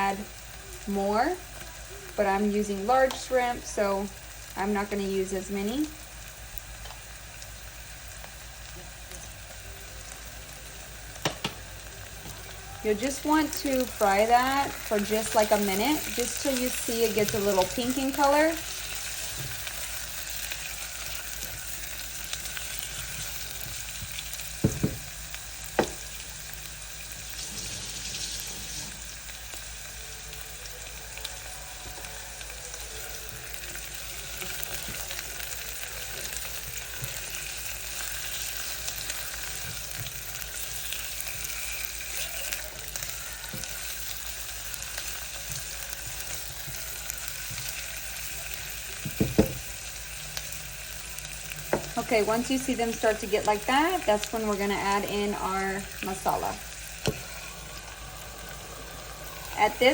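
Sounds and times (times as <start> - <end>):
shrimp sizzling in oil: 0.0 - 59.9.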